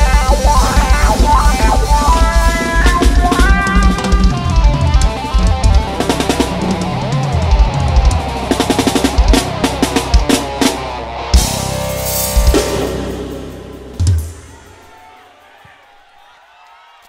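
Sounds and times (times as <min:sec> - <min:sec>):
melodic lead line: 0:00.0 - 0:14.3
drum kit and bass drum beat: 0:00.0 - 0:15.7.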